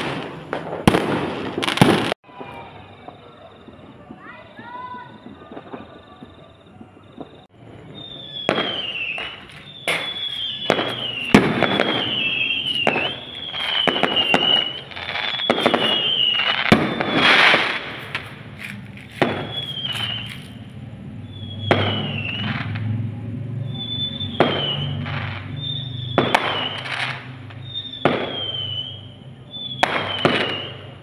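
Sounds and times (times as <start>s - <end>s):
firework bangs and crackling: 0.0s - 31.0s
firework whistles: 0.0s - 31.0s.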